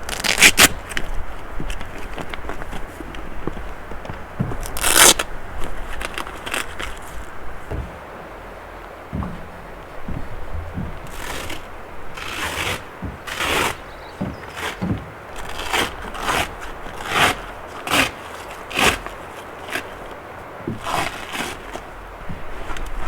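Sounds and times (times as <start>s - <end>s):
short scraping rustles: 0.0s - 23.0s.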